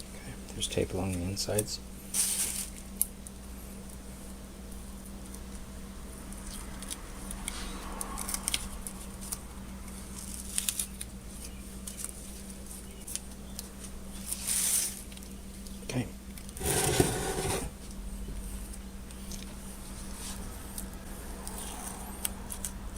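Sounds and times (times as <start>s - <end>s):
steady electrical hum: 0.0s - 22.9s.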